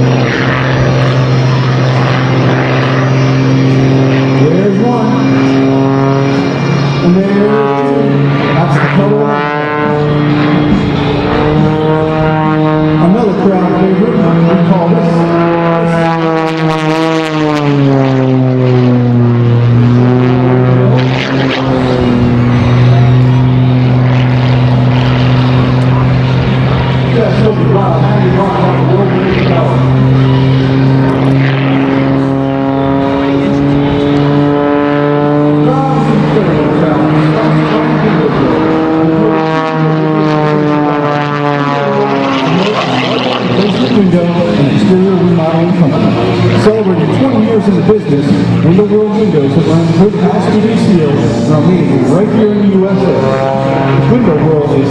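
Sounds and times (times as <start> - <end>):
propeller plane engine: 0.0 - 54.9.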